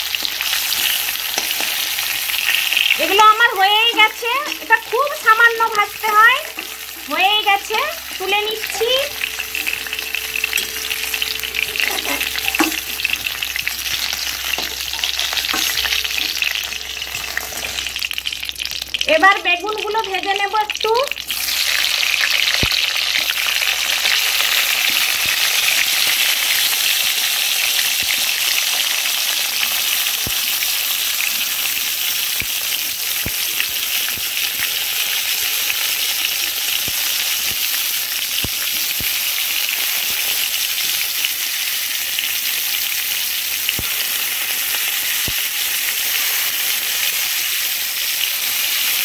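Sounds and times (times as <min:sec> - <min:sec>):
vegetables sizzling in hot oil: 0:00.0 - 0:49.0.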